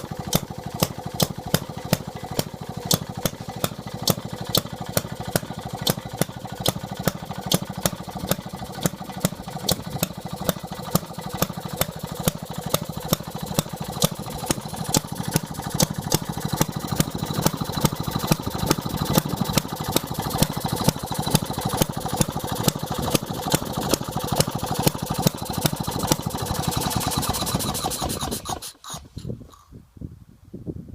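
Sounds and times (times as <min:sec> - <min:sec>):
gas engine running: 0:00.0 - 0:29.6.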